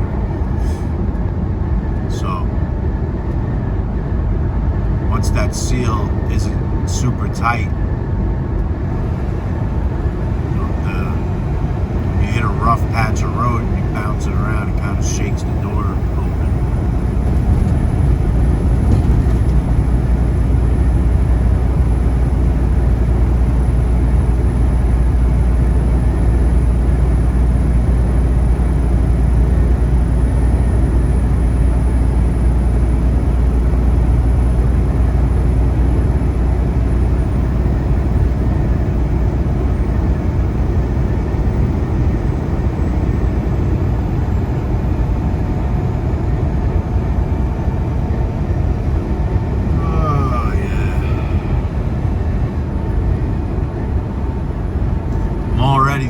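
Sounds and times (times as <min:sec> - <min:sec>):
road and tyre noise: 0:00.0 - 0:56.0
truck engine drone: 0:00.0 - 0:56.0.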